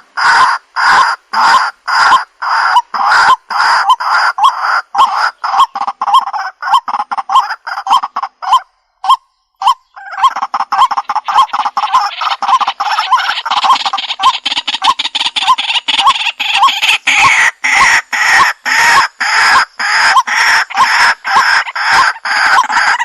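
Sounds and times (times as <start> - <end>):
waterhen harsh croaking: 0.0 - 23.0.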